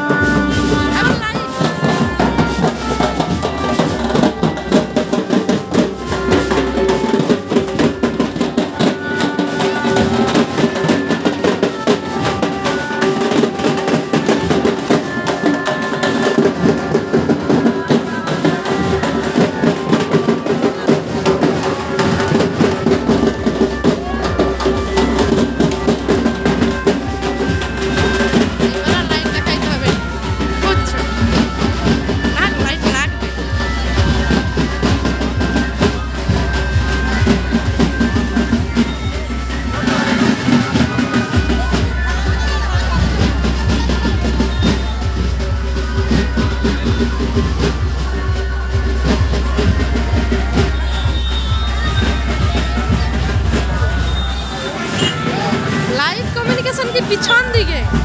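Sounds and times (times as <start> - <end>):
fast dense drumming: 0.0 - 58.0
keyboard melody over loudspeakers: 0.0 - 58.0
voices: 0.0 - 58.0.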